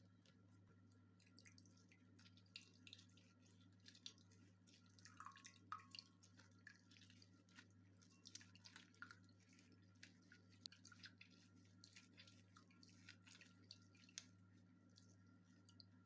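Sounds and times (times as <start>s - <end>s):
faint drips: 0.0s - 16.0s
low steady hum: 0.0s - 16.0s.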